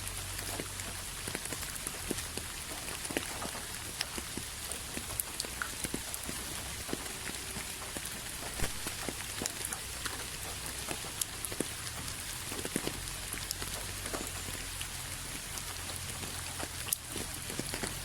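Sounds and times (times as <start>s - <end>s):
raindrops ticking and splashing: 0.0s - 18.0s
steady rain falling: 0.0s - 18.0s.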